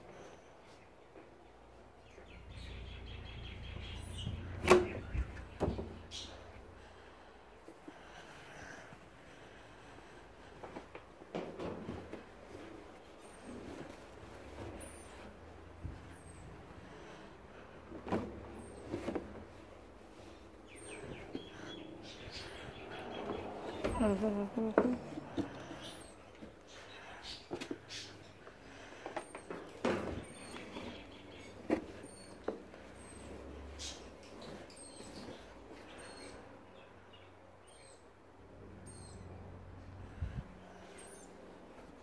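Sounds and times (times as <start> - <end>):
low rumble of handling noise: 1.2 - 36.5, 38.4 - 42.0.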